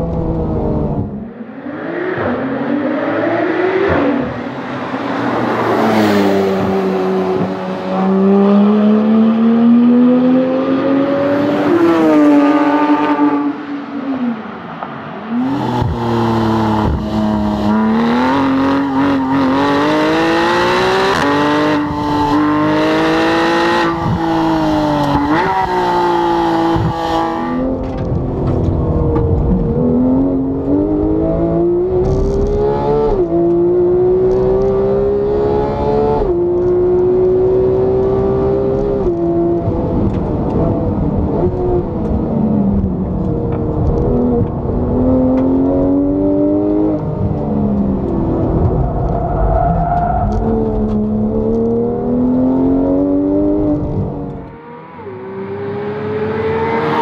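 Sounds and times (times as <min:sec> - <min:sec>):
sports car engine accelerating: 0:00.0 - 0:14.3, 0:15.3 - 0:57.0.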